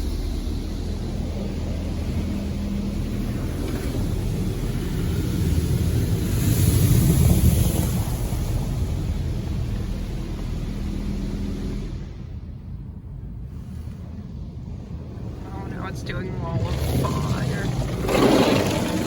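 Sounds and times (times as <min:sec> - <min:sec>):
car wash pumps and motors humming: 0:00.0 - 0:19.0.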